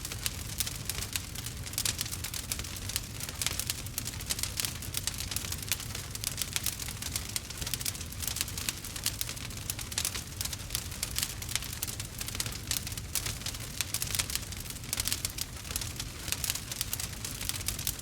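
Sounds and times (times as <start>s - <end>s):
low steady fire rumble: 0.0s - 18.0s
wood fire crackling and popping: 0.0s - 18.0s.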